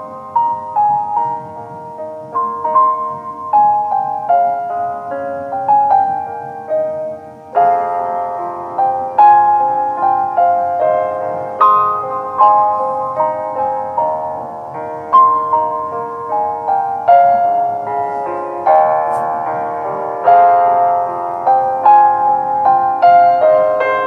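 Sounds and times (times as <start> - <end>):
solo piano melody: 0.0 - 24.0.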